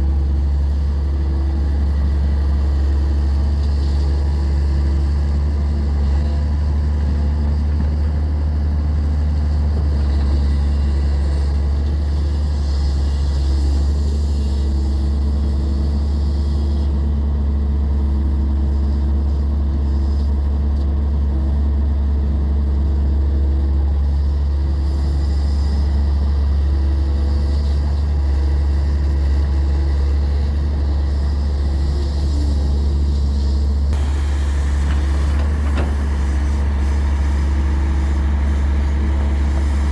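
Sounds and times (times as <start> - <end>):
diesel excavator droning: 0.0 - 39.9.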